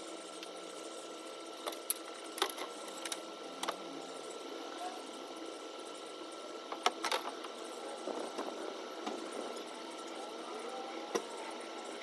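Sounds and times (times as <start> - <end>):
mechanical hum with high whine: 0.0 - 12.0.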